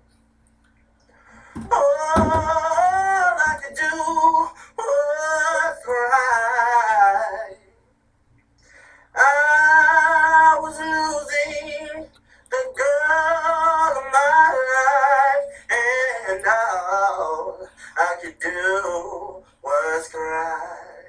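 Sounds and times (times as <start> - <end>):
person singing with vibrato: 1.2 - 7.8, 8.8 - 21.0.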